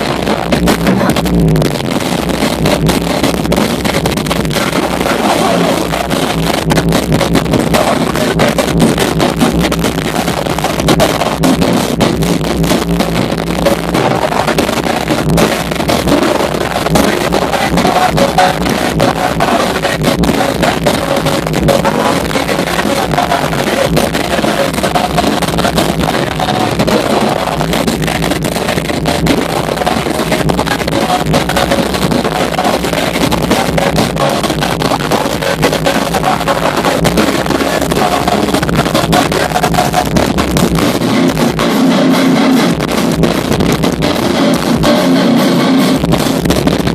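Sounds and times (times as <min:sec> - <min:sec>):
drum kit: 0:00.0 - 0:46.9
electric guitars: 0:00.0 - 0:46.9.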